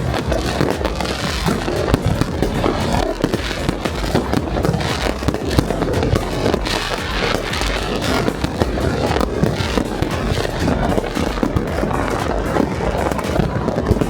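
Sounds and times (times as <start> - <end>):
fireworks and firecrackers crackling: 0.0 - 14.0.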